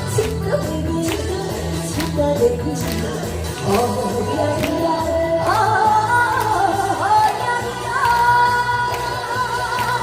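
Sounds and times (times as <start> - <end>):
backing track music: 0.0 - 10.0
woman singing: 0.0 - 10.0.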